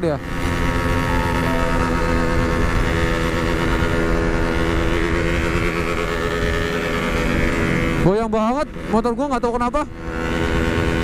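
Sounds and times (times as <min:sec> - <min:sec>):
two-stroke motorcycle engine: 0:00.0 - 0:11.0.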